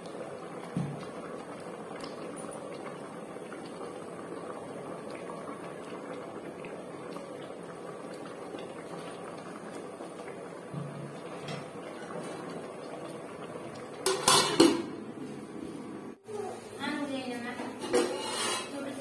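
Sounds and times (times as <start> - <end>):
curry bubbling in a pot: 0.0 - 19.0.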